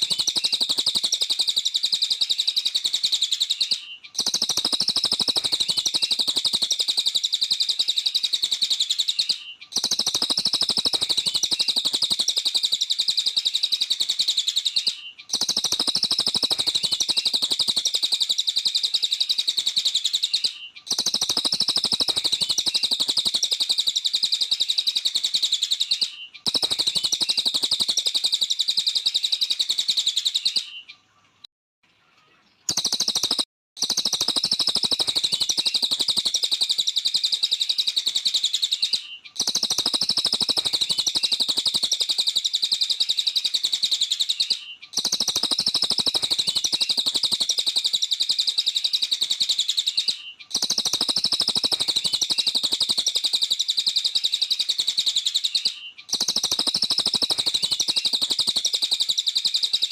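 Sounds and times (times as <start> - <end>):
bird twittering: 0.0 - 31.2, 32.2 - 59.9.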